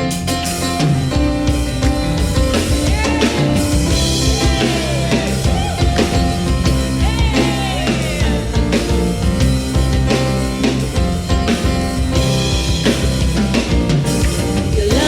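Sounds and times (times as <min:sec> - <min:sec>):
sliding melodic notes: 0:00.0 - 0:15.0
upbeat worship song: 0:00.0 - 0:15.0.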